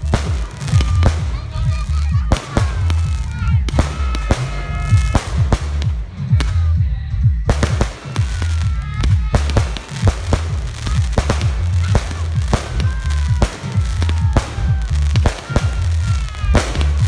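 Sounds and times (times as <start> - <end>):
falling whistling fireworks: 0.0 - 6.0, 7.5 - 17.0
fireworks bangs: 0.0 - 6.7, 7.4 - 17.0
low rumble: 0.0 - 17.0.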